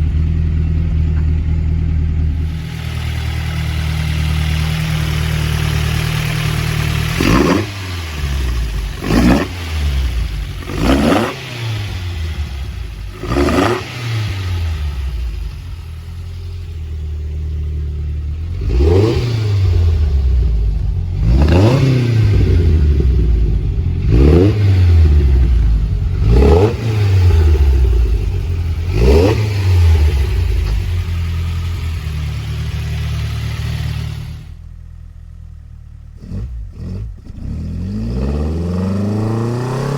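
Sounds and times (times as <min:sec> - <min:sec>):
four-cylinder engine revving: 0:00.0 - 0:39.9.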